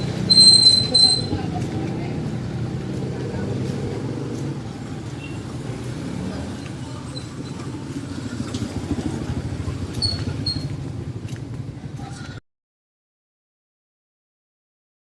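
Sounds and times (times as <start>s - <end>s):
vehicle engine rumbling: 0.0s - 12.4s.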